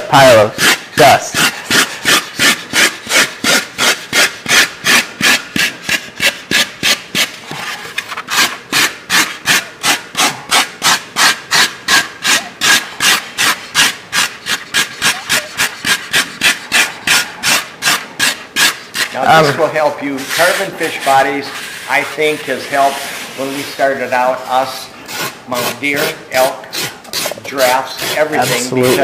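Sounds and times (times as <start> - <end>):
rasp scraping foam: 0.0 - 29.0.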